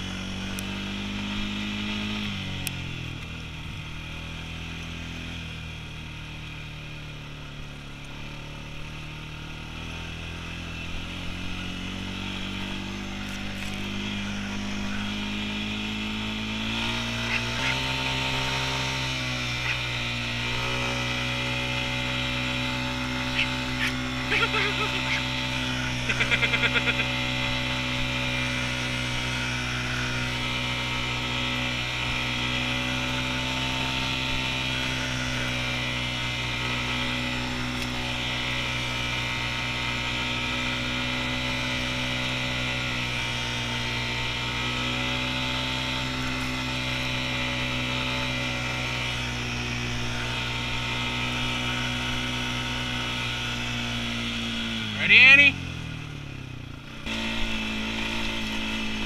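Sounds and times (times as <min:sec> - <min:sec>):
atv engine running steadily: 0:00.0 - 0:59.0.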